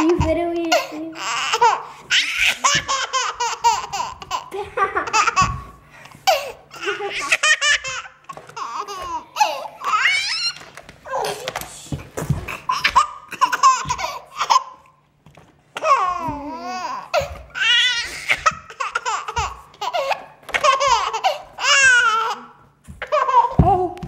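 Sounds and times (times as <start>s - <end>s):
baby laughing: 0.0s - 11.6s, 12.5s - 14.9s, 15.8s - 24.0s.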